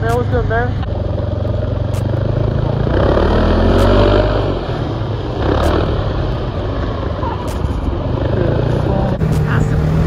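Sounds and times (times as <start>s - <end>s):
snowmobile engine under throttle: 0.1s - 10.0s.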